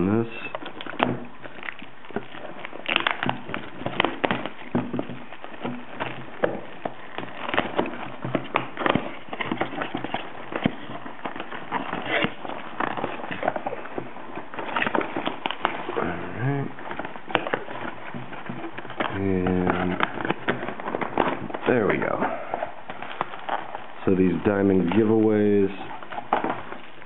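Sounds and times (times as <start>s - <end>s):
plastic shrink-wrap crinkling and tearing: 0.0s - 27.0s.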